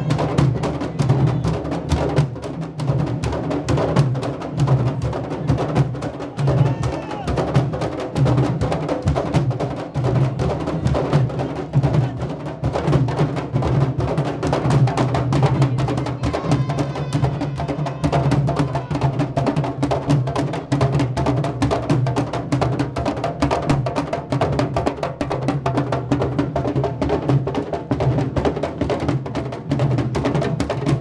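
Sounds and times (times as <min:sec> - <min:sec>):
marching hand drums playing: 0:00.0 - 0:31.0.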